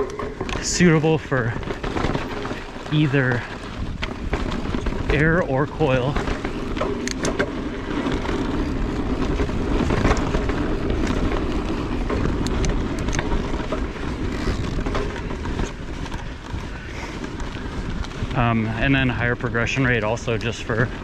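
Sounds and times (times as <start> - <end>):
bike knocks and rattles: 0.0 - 21.0
rumble of tyres and wind: 0.0 - 21.0.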